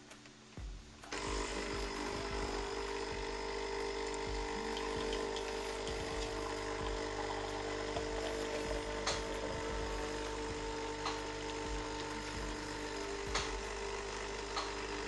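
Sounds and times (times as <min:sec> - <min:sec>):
small electric motor humming: 0:01.1 - 0:15.0.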